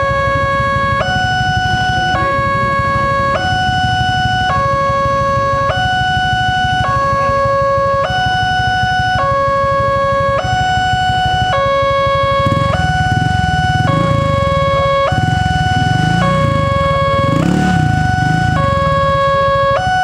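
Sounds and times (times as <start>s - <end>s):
two-tone crossing alarm: 0.0s - 20.0s.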